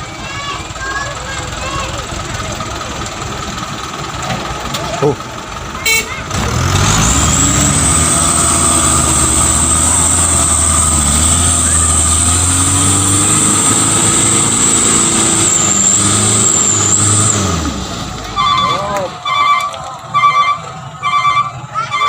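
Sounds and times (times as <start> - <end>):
truck diesel engine under load: 0.0 - 22.0.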